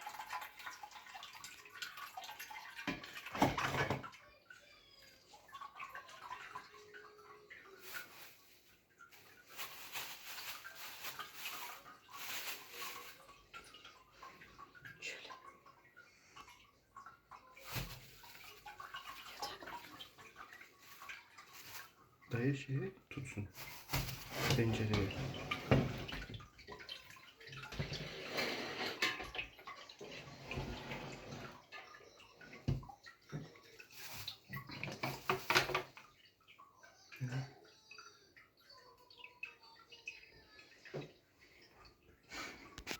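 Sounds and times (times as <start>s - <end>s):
liquid splashing and trickling: 0.0s - 42.9s.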